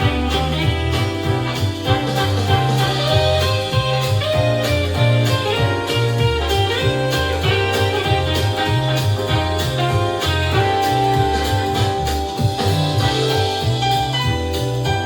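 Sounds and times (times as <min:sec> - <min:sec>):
pop music through speaker: 0:00.0 - 0:15.0.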